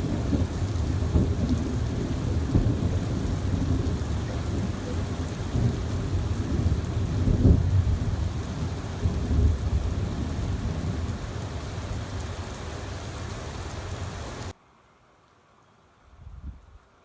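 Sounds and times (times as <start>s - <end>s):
heavy rain falling: 0.0s - 14.5s
thunder rumbling: 0.0s - 14.5s.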